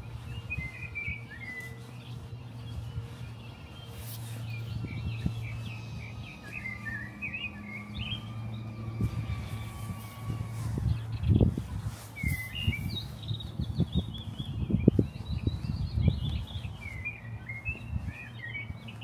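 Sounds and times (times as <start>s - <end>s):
steady low hum: 0.0s - 18.8s
small birds chirping: 0.0s - 19.0s.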